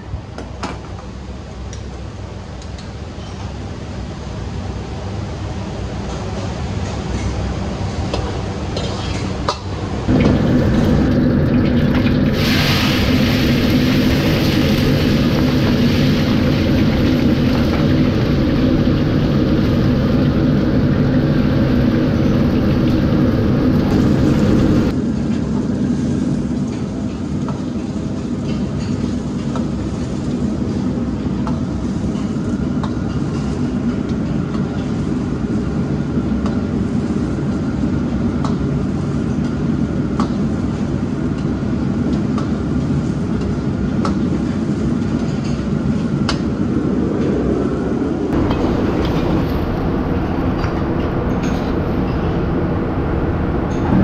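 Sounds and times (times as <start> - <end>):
mechanical drone with low hum: 0.0 - 54.0.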